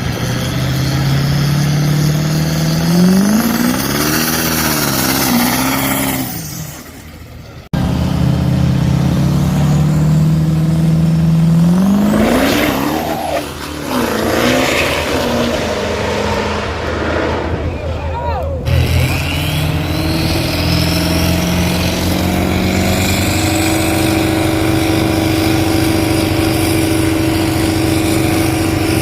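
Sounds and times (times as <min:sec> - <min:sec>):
diesel truck engine accelerating: 0:00.0 - 0:29.0.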